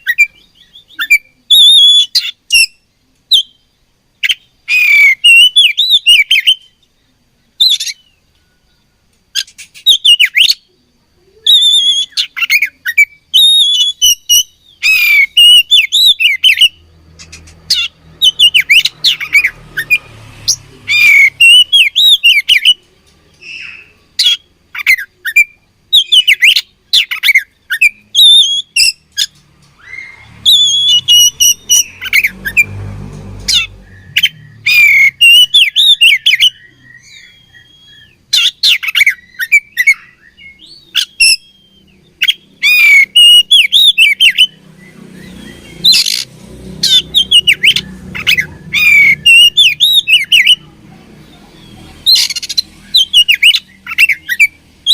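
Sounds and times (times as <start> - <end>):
bird singing whistled notes: 0.0 - 32.8, 33.5 - 50.6, 51.6 - 54.9.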